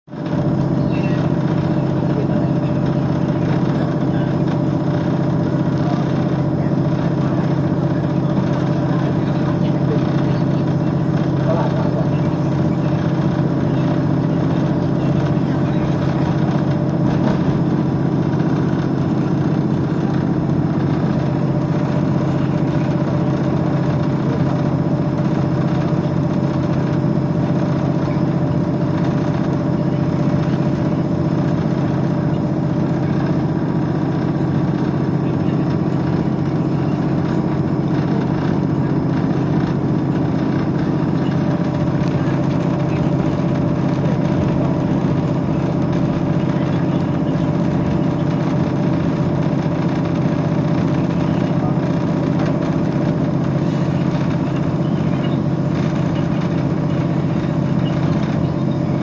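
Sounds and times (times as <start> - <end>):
train diesel engine running: 0.0 - 59.0.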